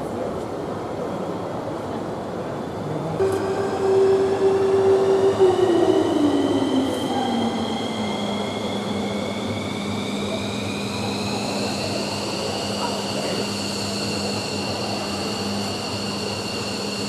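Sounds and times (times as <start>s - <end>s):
jet engine running: 3.2s - 17.0s.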